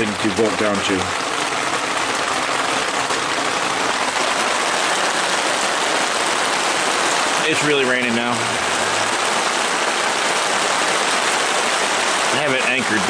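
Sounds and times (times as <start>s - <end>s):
heavy rain on fabric canopy: 0.0s - 13.0s.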